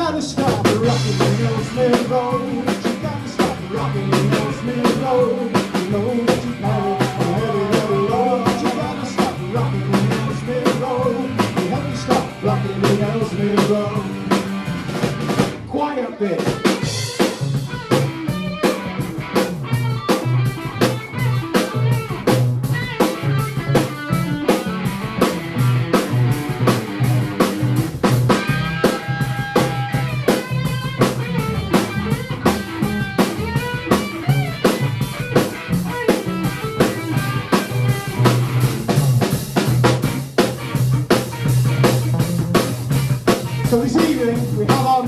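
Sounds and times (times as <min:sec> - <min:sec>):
bass guitar: 0:00.0 - 0:45.0
drum kit beat: 0:00.0 - 0:45.0
electric guitar: 0:00.0 - 0:45.0.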